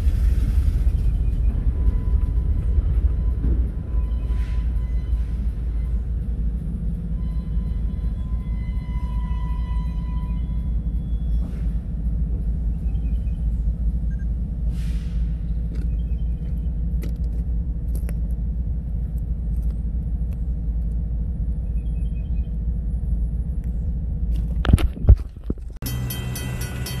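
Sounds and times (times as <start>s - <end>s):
low rumble: 0.0s - 27.0s.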